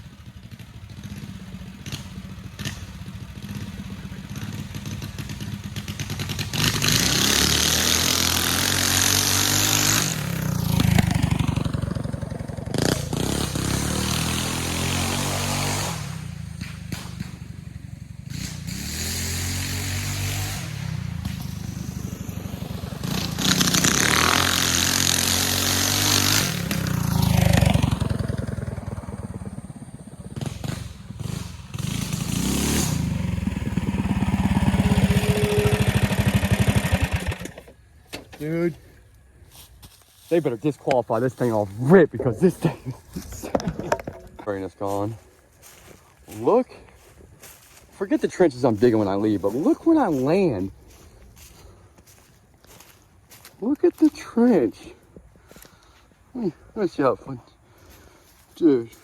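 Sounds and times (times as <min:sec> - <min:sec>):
mini bike engine revving: 0:00.0 - 0:59.0.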